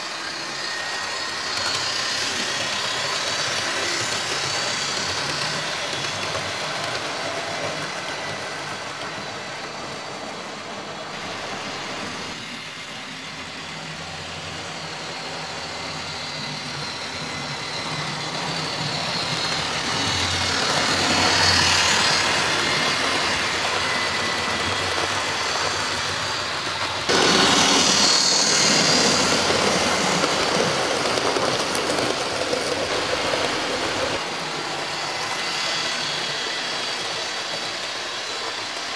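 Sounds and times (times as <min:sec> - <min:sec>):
model train wheels rattling on rail: 0:00.1 - 0:10.6, 0:14.2 - 0:38.9.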